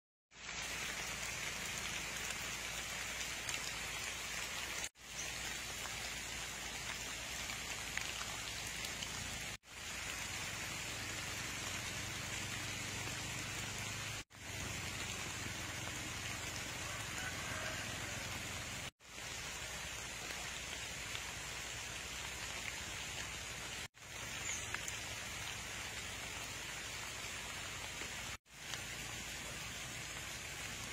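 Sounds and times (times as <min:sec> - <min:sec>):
rain falling on leaves: 0:00.3 - 0:30.9.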